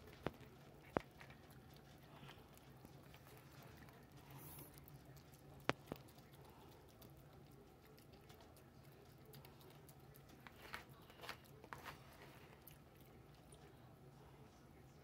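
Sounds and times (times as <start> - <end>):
animal licking and smacking: 0.0 - 14.1.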